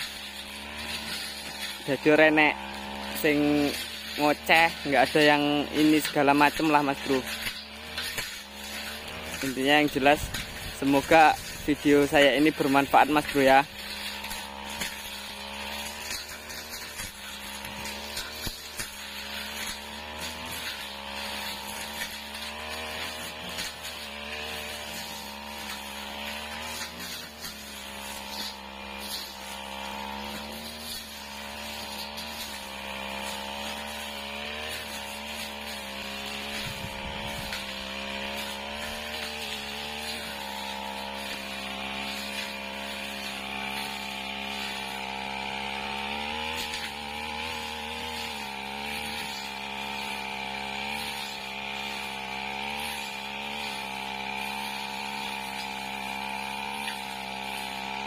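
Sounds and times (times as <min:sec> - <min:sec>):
brush cutter engine running: 0:00.0 - 0:58.0.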